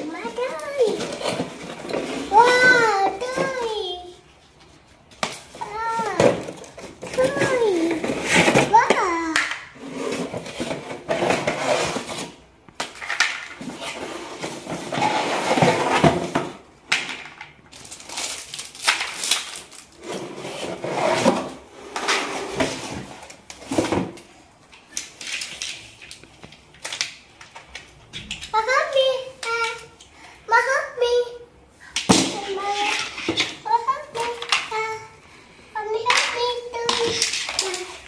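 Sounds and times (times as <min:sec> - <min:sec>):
plastic parts rustling and knocking: 0:00.0 - 0:30.4, 0:32.0 - 0:35.2, 0:36.0 - 0:38.0.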